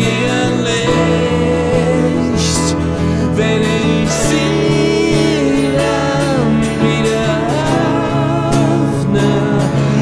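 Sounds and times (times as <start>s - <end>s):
acoustic and electric guitars: 0.0s - 10.0s
man singing: 0.0s - 10.0s.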